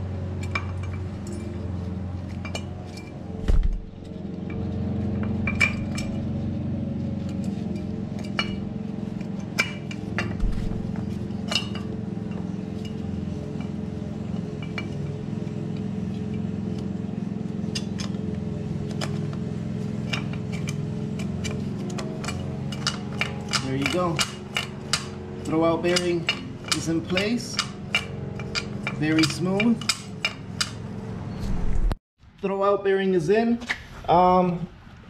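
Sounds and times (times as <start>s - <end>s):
steady low hum: 0.0s - 29.1s.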